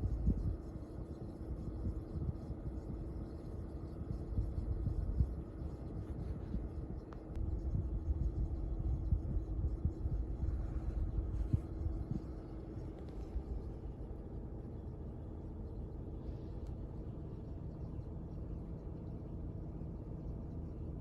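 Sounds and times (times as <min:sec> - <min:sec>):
air conditioning hum: 0:00.0 - 0:21.0
low fluttering rumble: 0:00.0 - 0:21.0.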